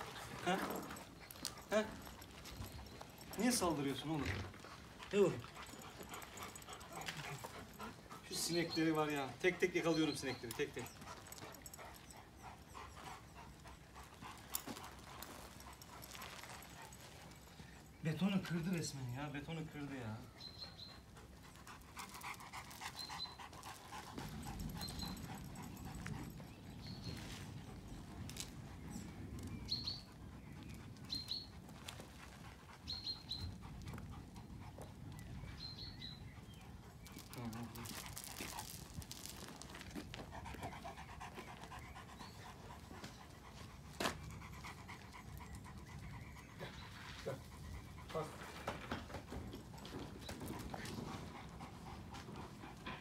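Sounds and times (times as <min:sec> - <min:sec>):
dog panting: 0:00.0 - 0:53.0.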